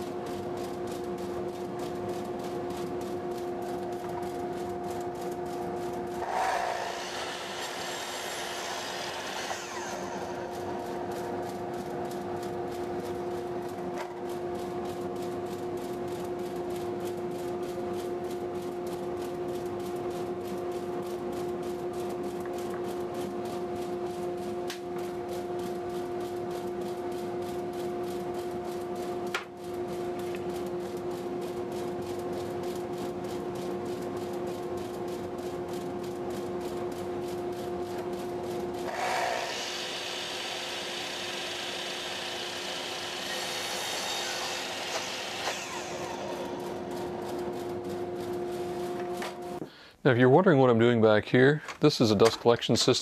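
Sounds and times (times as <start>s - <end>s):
dust collector humming: 0.0s - 53.0s.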